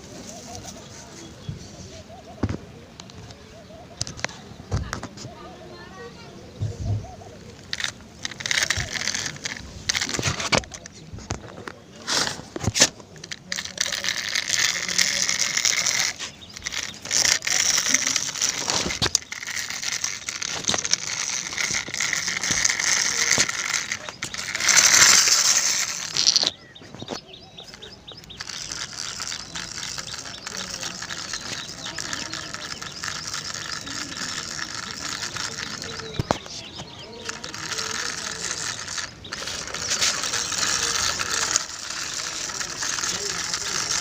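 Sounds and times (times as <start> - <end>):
toy gears rattling and clicking: 0.0 - 1.2, 2.9 - 5.0, 7.0 - 44.0.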